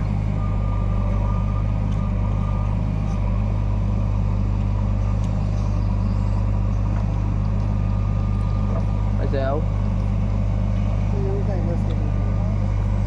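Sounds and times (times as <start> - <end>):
heavy diesel engines running steadily: 0.0 - 13.0.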